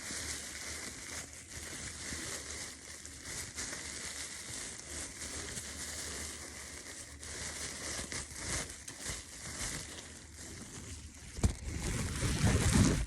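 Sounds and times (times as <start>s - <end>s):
crinkling handling noise: 0.0s - 13.0s.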